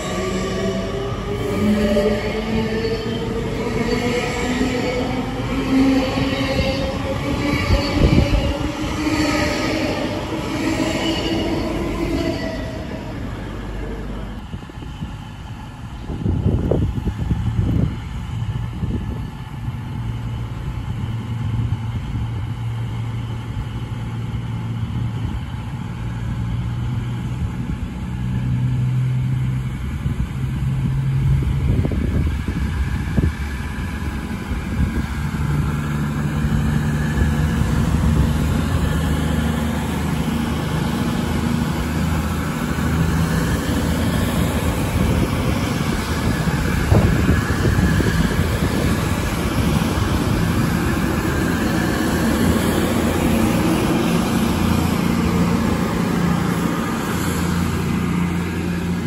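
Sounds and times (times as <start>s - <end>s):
diesel train passing: 0.0s - 59.0s.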